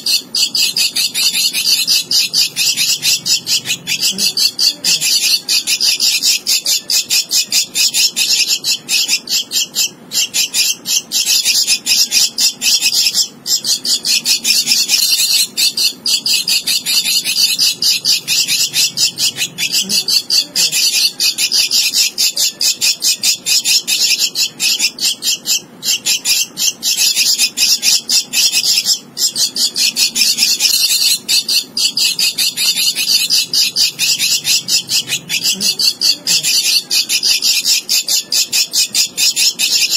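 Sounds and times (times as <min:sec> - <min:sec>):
bird chick rasping begging calls: 0:00.0 - 0:39.9.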